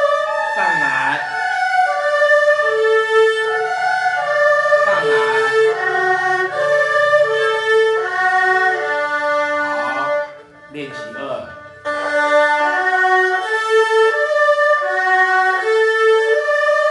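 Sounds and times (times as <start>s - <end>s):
erhu playing notes: 0.0s - 16.9s.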